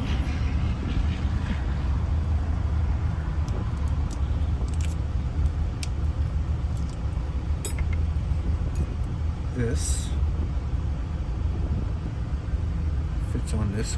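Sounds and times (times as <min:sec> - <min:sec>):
vehicle low rumble: 0:00.0 - 0:13.9.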